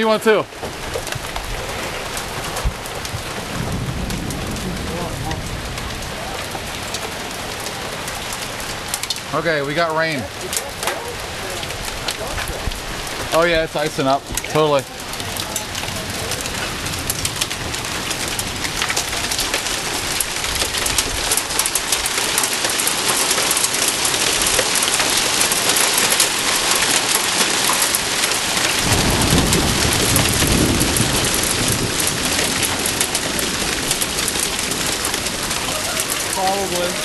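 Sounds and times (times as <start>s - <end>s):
heavy rain and hail pelting: 0.0s - 37.0s
thunder rumble: 0.6s - 22.3s, 28.0s - 37.0s.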